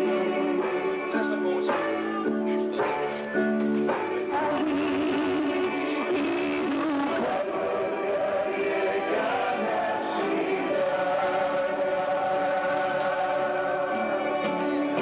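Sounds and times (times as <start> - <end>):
several voices singing together: 0.0 - 3.3, 4.2 - 15.0.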